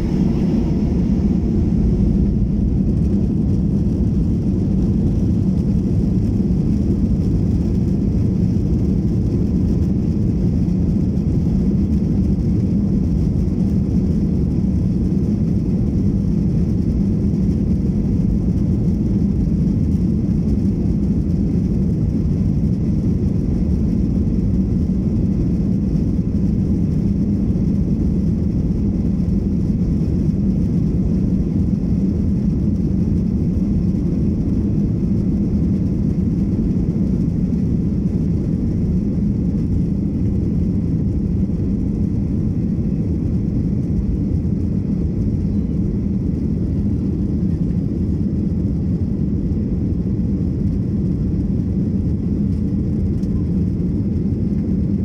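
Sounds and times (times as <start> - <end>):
jet engines at takeoff thrust: 0.0 - 55.0
wheels rumbling on runway: 0.0 - 55.0.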